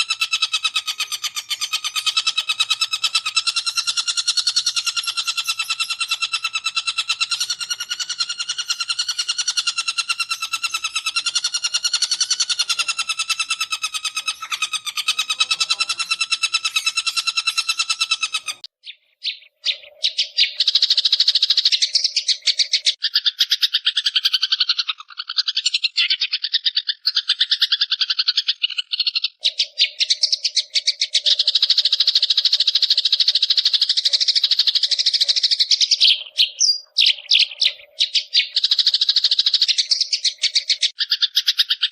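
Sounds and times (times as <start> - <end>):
bird chattering calls: 0.0 - 41.9.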